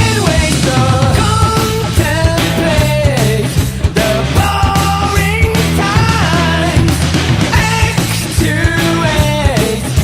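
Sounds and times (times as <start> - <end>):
rock music with singing: 0.0 - 10.0.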